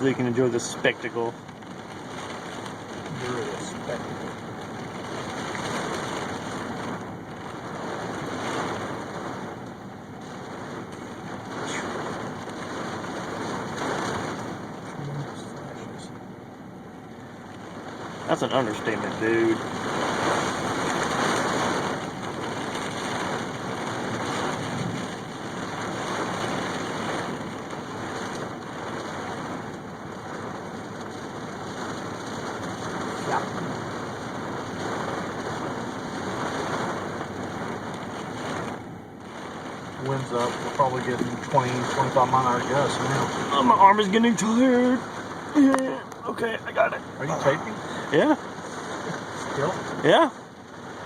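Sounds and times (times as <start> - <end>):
gusting wind: 0.0 - 51.0
rain: 0.0 - 51.0.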